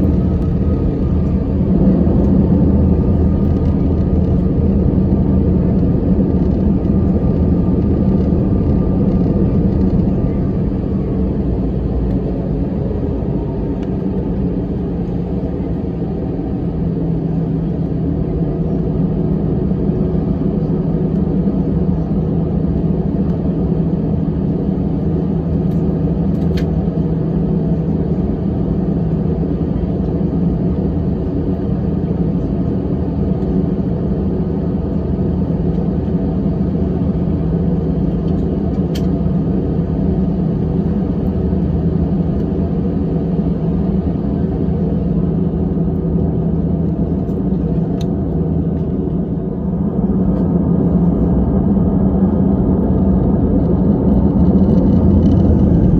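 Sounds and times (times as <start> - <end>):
jet engines humming: 0.0 - 55.9.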